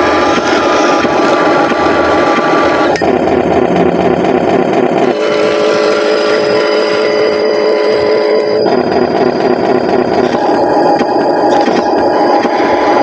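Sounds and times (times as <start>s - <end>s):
electric toy truck whine: 0.0s - 13.0s.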